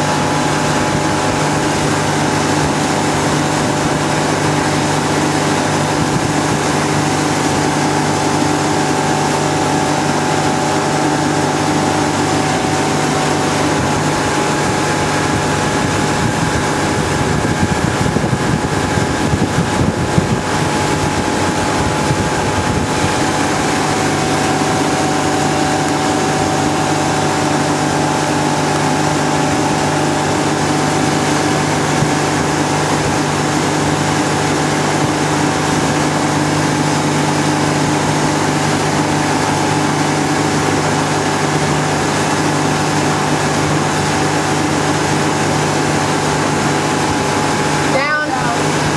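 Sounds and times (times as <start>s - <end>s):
motorboat engine humming: 0.0s - 48.9s
wind on microphone: 0.0s - 48.9s.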